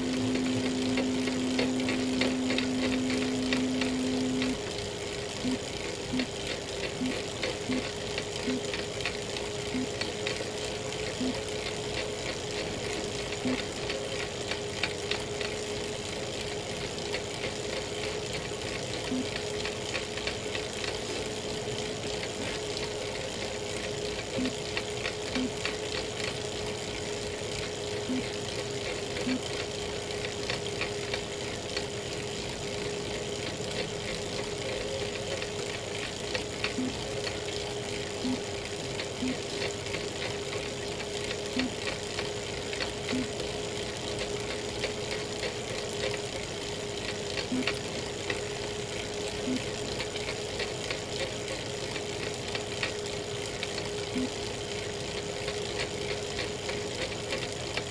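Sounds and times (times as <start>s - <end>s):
bike trainer whine: 0.0s - 57.9s.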